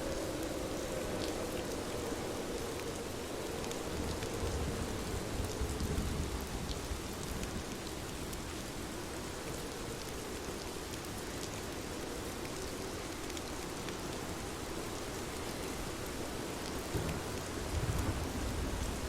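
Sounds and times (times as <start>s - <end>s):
rain pattering on surfaces: 0.0s - 19.0s.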